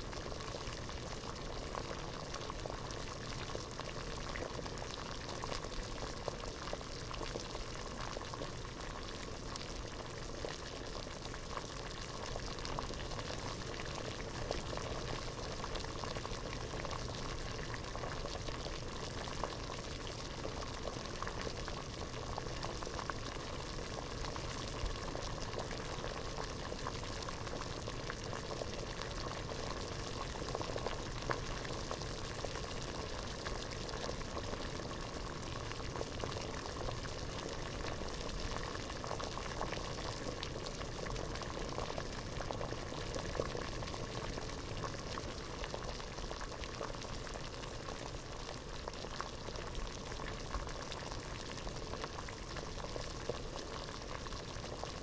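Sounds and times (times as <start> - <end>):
water boiling in a pot: 0.0 - 55.0.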